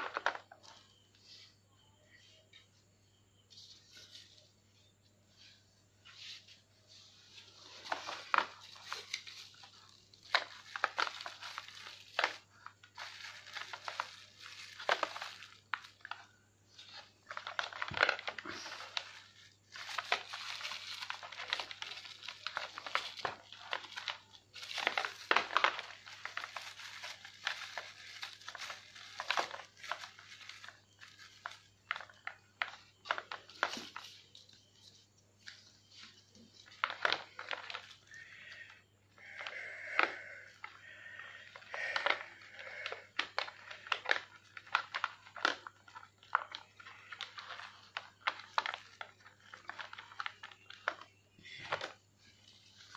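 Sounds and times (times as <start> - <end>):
plastic packaging crinkling: 0.0 - 1.4, 3.5 - 52.9.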